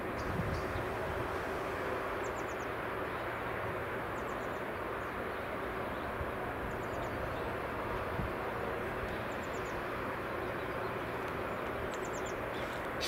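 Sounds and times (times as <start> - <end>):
passing traffic rushing: 0.0 - 13.0.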